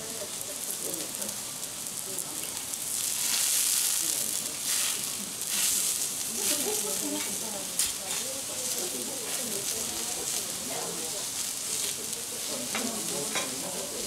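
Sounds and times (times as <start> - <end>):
vegetables sizzling on a griddle: 0.0 - 14.0.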